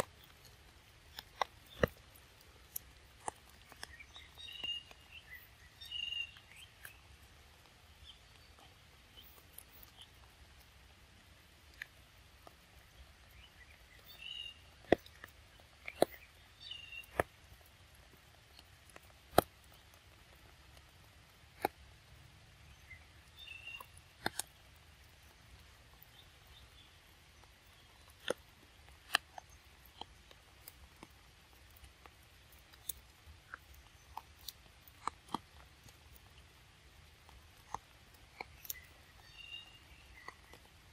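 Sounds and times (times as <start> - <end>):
monkeys chewing fruit: 0.0 - 40.9.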